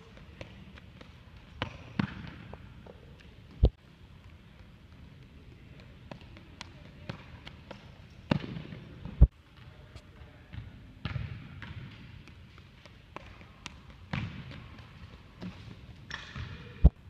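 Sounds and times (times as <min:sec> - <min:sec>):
knocks and thuds echoing in gym: 0:00.0 - 0:03.8, 0:05.8 - 0:17.0.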